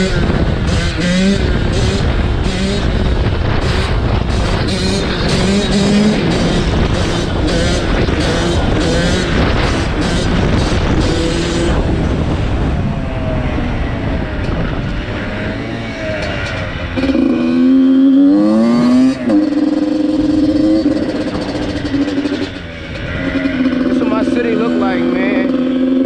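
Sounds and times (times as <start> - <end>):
dirt bike engine revving: 0.0 - 12.7, 13.6 - 26.0.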